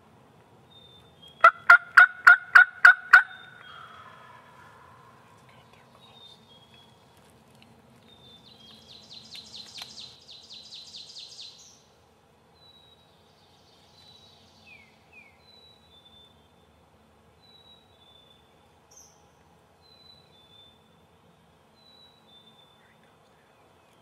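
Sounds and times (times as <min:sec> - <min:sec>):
songbirds singing faintly: 0:00.0 - 0:24.0.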